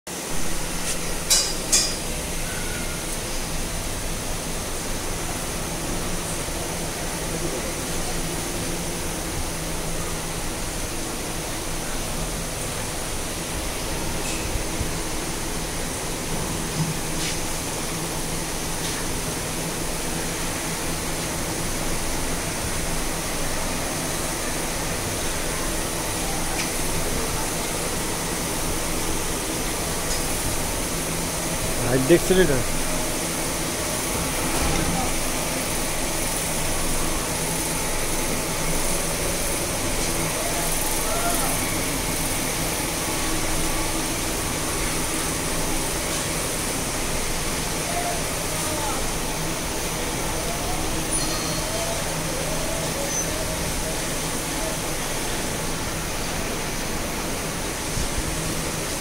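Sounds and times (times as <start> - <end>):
ventilation fans rushing: 0.1 - 59.0.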